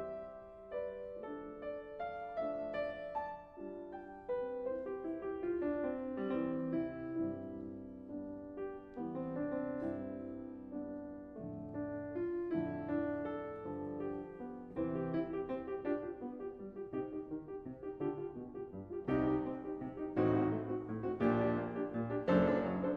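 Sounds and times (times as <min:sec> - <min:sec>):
piano music: 0:00.0 - 0:22.9.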